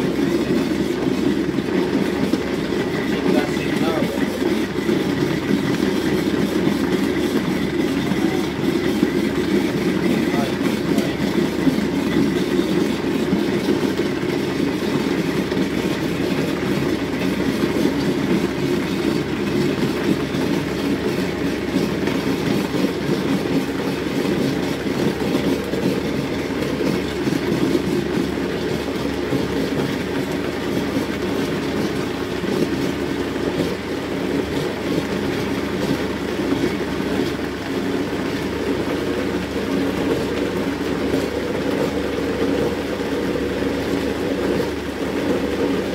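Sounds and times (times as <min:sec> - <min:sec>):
blender motor running: 0:00.0 - 0:37.4.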